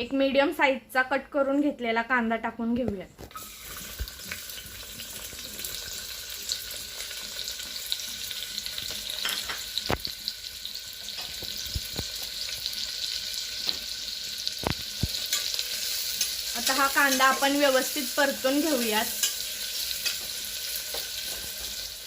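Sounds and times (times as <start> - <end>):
onion sizzling in hot oil: 3.3 - 22.0.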